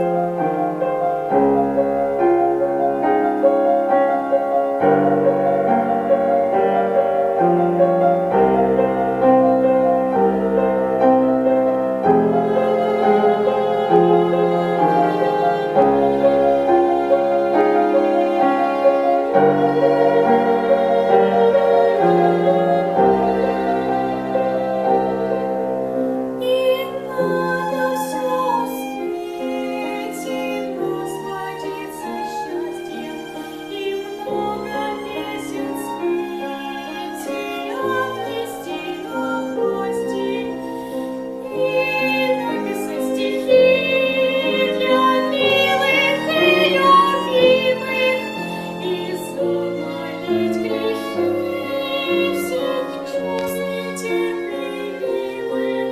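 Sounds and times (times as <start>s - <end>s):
slow song with bowed strings: 0.0s - 55.9s.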